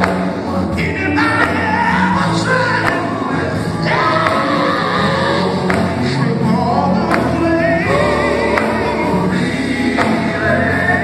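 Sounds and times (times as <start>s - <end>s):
instrumental backing: 0.0s - 11.0s
male vocal group singing gospel: 0.0s - 11.0s.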